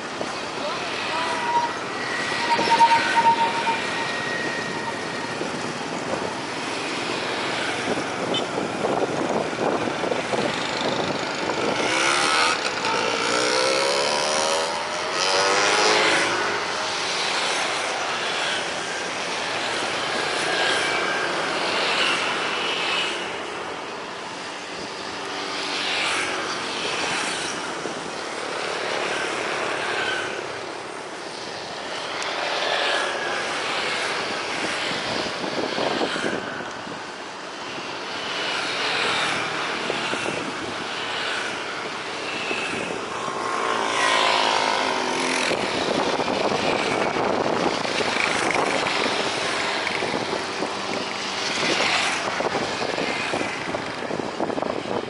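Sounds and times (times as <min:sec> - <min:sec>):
cars and motorbikes passing: 0:00.0 - 0:55.0.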